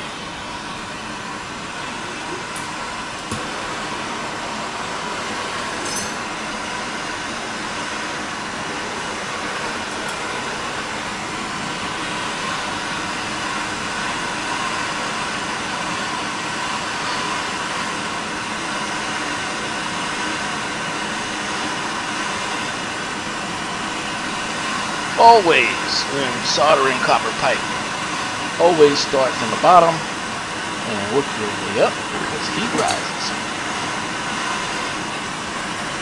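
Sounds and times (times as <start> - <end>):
gas torch hissing: 0.2 - 36.0.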